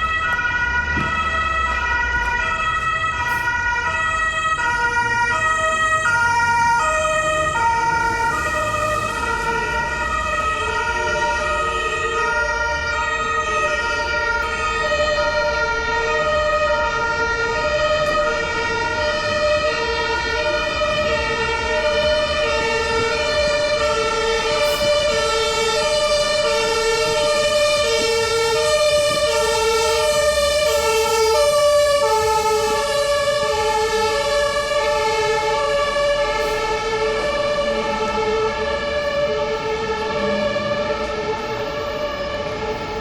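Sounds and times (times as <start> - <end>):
low traffic rumble: 0.0 - 43.0
two-tone siren: 0.0 - 43.0.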